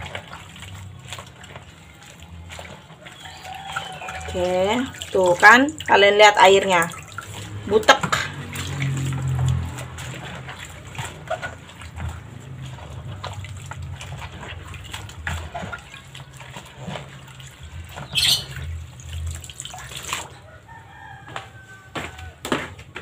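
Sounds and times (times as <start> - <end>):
water sloshing in a basin: 0.0 - 23.0.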